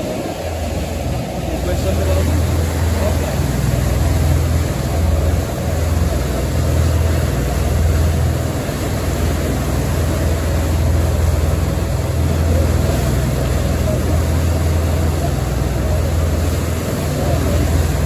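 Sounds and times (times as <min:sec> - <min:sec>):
ship engines droning: 0:00.0 - 0:18.0
water rushing in wake: 0:00.0 - 0:18.0.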